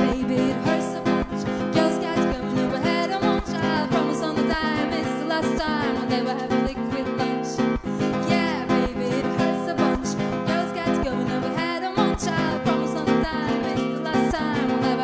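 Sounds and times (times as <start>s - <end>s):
acoustic guitar strumming: 0.0s - 15.0s
woman singing: 0.0s - 15.0s.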